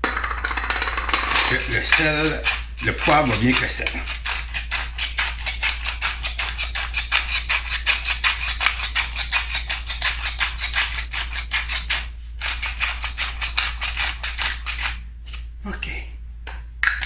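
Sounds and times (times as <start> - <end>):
pepper mill grinding: 0.6 - 15.8.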